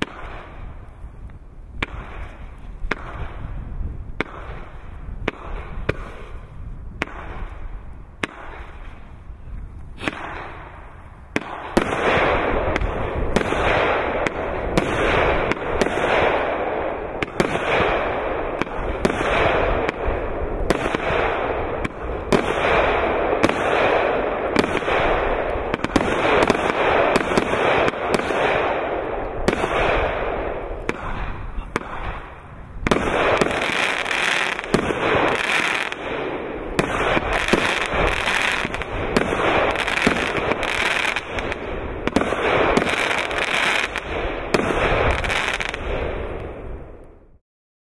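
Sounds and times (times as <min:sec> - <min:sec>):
firework bangs: 0:00.0 - 0:00.8, 0:01.8 - 0:09.2, 0:09.9 - 0:47.2
continuous dense firework noise: 0:00.0 - 0:47.4.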